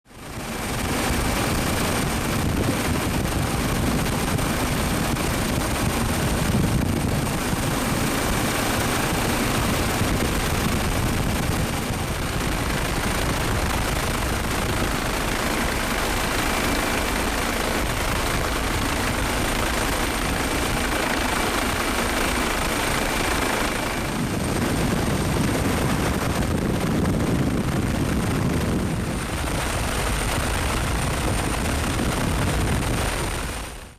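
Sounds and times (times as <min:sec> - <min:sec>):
helicopter rotor and engine: 0:00.1 - 0:33.9.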